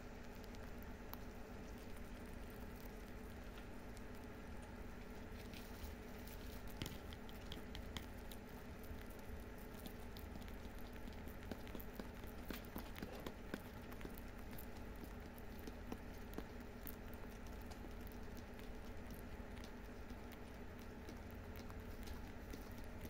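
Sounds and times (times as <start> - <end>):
faint low hum: 0.0 - 23.0
rabbits chewing dry hay: 0.0 - 23.0.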